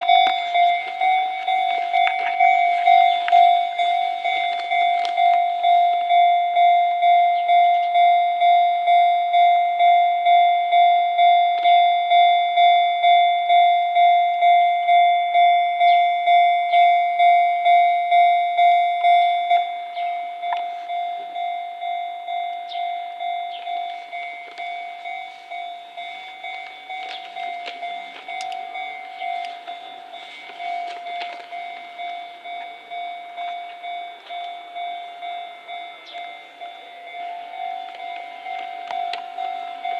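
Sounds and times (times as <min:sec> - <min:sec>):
level-crossing alarm dinging: 0:00.0 - 0:39.9.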